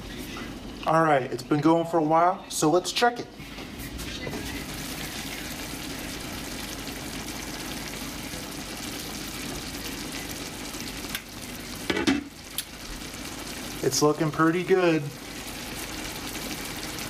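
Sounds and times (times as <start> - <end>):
sauce sizzling and bubbling: 0.0 - 17.0.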